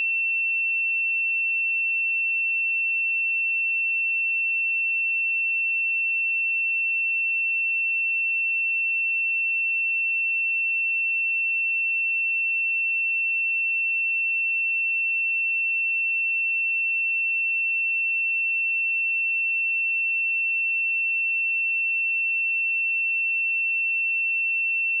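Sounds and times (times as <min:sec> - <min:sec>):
sine wave test tone: 0:00.0 - 0:25.0.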